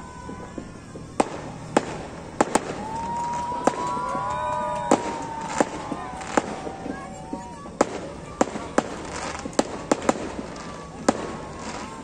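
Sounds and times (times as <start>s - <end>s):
fireworks bangs: 0.0s - 12.0s
fireworks whistling: 0.0s - 12.0s.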